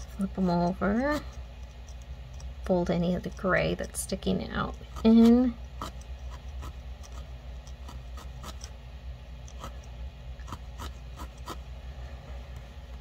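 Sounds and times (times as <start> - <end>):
felting needle clicking and scratching: 0.0 - 11.8
low steady hum: 0.0 - 13.0.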